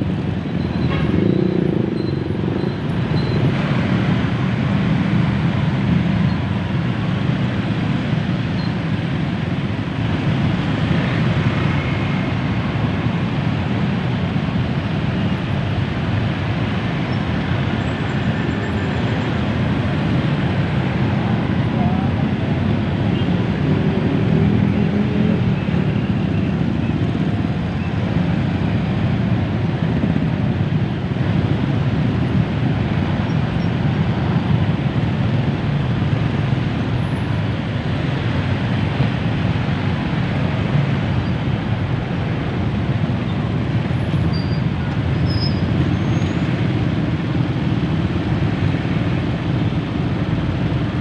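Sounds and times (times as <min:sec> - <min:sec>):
slow road traffic rumble: 0:00.0 - 0:51.0.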